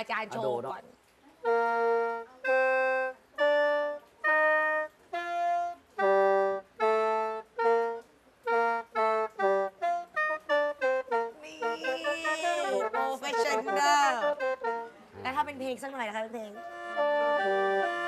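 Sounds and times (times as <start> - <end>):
mouth organ reedy notes: 1.5 - 15.4, 16.6 - 18.0.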